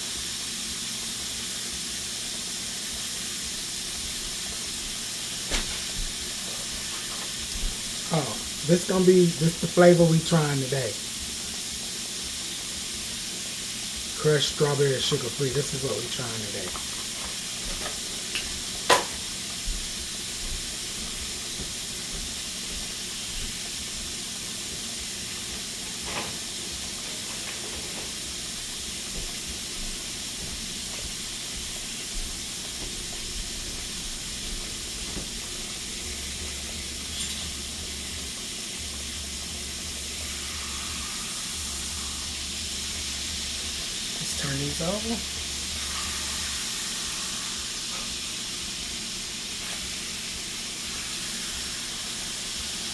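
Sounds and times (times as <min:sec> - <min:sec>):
food sizzling in hot oil: 0:00.0 - 0:52.9.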